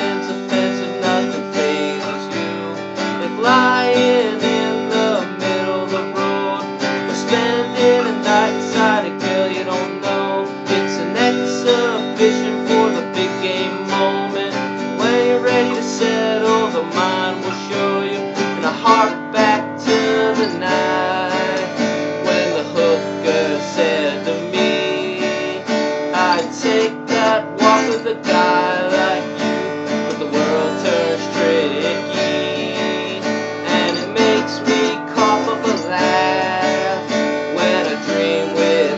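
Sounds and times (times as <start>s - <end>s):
strummed acoustic guitar: 0.0s - 38.9s.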